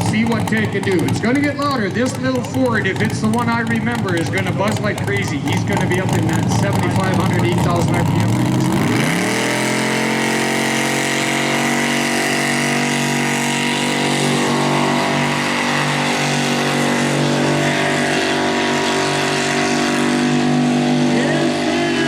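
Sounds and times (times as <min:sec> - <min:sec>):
pulling tractor engine at high revs: 0:00.0 - 0:22.0.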